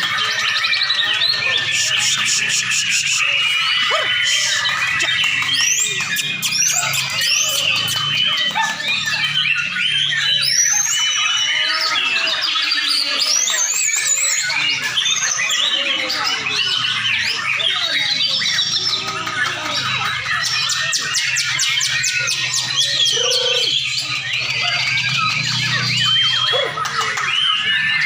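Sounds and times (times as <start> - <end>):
fast ticking bird notes: 0.0 - 11.4, 12.0 - 28.0
human voices: 0.0 - 28.0
songbirds singing in chorus: 0.0 - 28.0.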